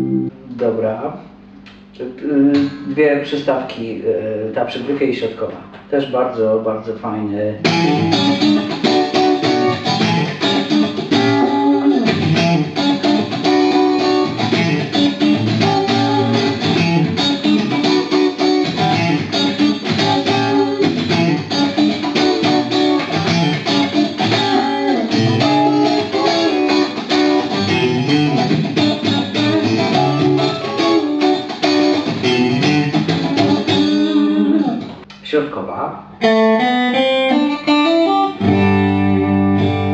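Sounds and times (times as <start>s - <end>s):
electric guitar through an amp: 0.0s - 35.2s, 36.0s - 39.9s.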